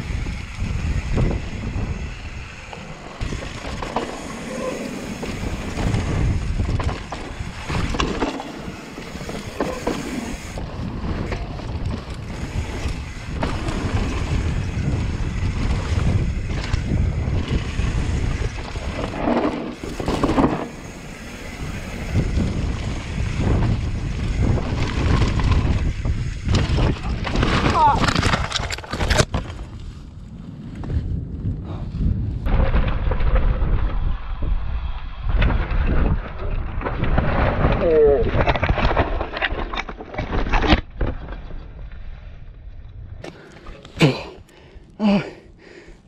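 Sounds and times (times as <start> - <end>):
bike rattles and knocks: 0.0 - 30.0, 32.4 - 42.0
wind buffeting microphone: 0.0 - 38.9
bike tyres on gravel: 0.0 - 46.0.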